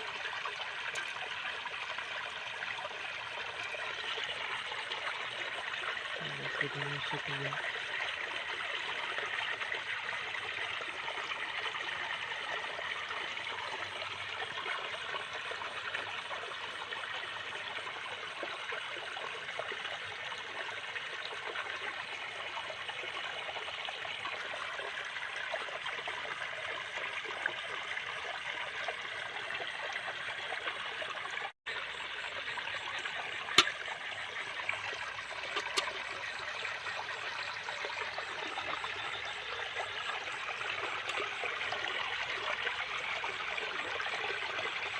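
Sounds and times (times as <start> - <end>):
water trickling and rushing: 0.0 - 44.9.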